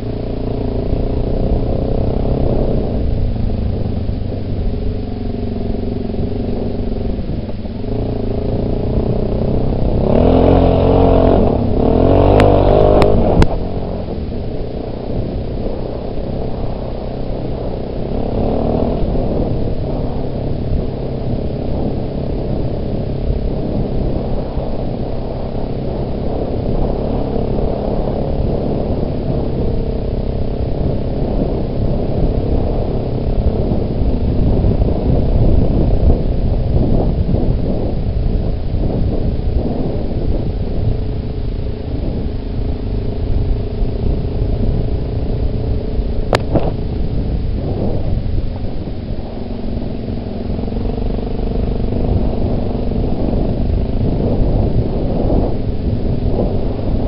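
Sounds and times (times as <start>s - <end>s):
atv engine running: 0.0s - 57.0s
wind rumble on microphone: 0.0s - 57.0s.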